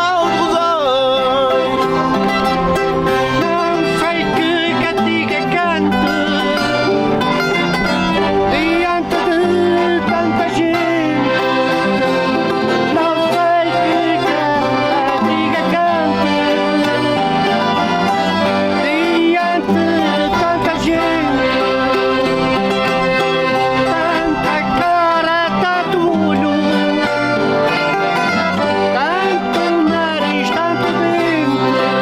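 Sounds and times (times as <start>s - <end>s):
accordion: 0.0s - 32.0s
string instruments: 0.0s - 32.0s
voices singing: 0.0s - 32.0s.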